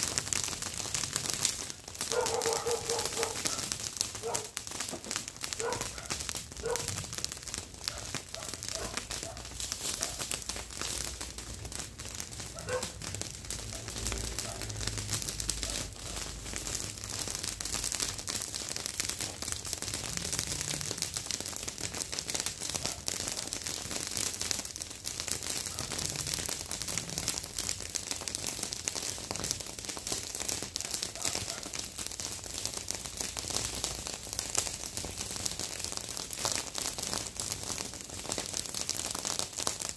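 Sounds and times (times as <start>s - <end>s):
brush fire crackling: 0.0s - 39.9s.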